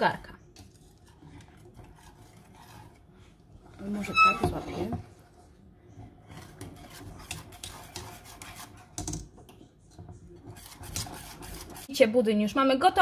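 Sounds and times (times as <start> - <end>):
whisk scraping a metal pot: 0.5 - 9.0, 10.0 - 12.0.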